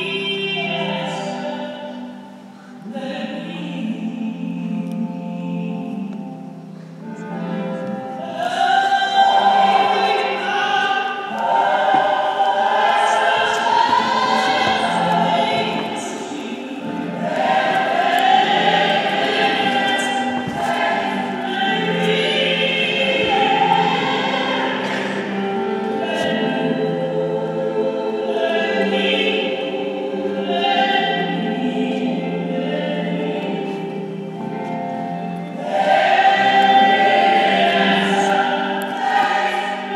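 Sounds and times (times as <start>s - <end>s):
choir singing gospel song: 0.0s - 6.3s, 8.1s - 39.9s.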